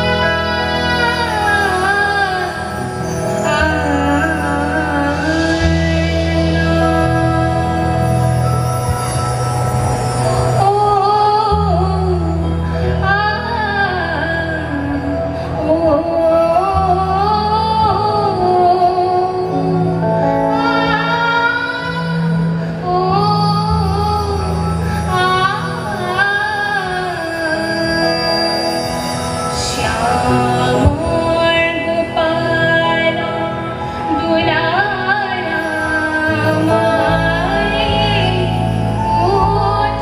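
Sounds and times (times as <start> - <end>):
woman singing into microphone: 0.0 - 9.3, 10.1 - 40.0
instrumental accompaniment with low bass: 0.0 - 40.0.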